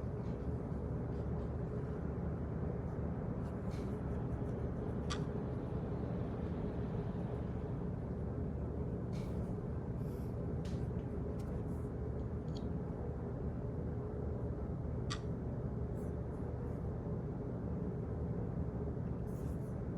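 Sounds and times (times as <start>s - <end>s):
faint hum: 0.0s - 19.9s.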